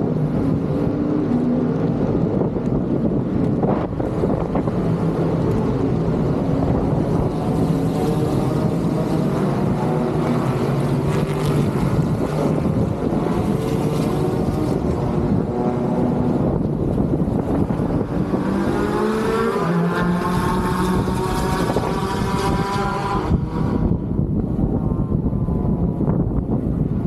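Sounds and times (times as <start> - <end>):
engines running: 0.0 - 24.8
wind noise: 0.0 - 27.0.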